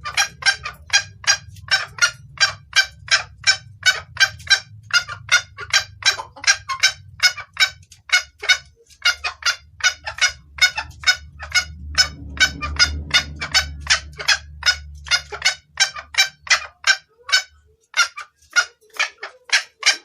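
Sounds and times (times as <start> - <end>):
junglefowl hen calling: 0.0 - 20.0.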